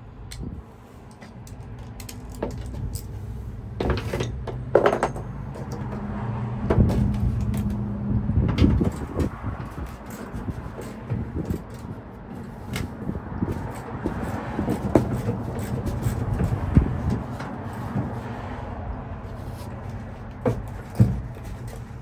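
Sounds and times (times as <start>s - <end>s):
tools clicking and scraping on metal: 0.3s - 6.1s, 6.7s - 7.9s, 8.5s - 18.5s, 19.2s - 22.0s.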